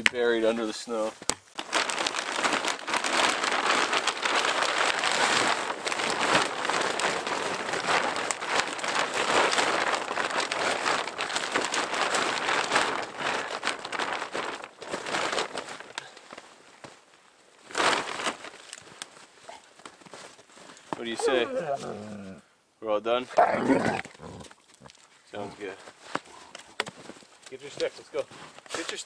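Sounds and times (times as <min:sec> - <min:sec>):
rustling and crinkling of gear: 0:00.0 - 0:22.4, 0:23.4 - 0:29.0.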